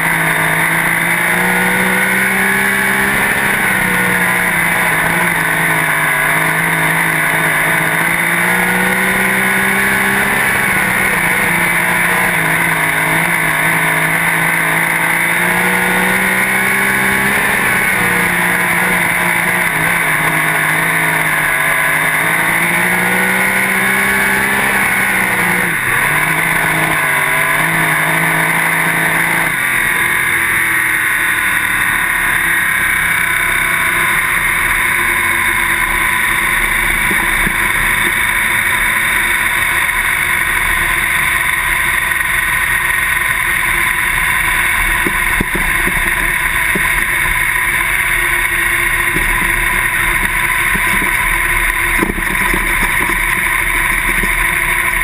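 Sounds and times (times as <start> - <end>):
race car engine running: 0.0 - 55.0
rush of noise: 0.0 - 55.0.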